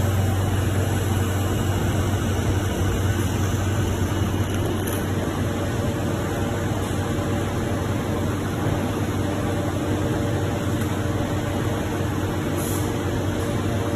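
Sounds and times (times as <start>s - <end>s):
industrial machinery low hum: 0.0s - 13.9s.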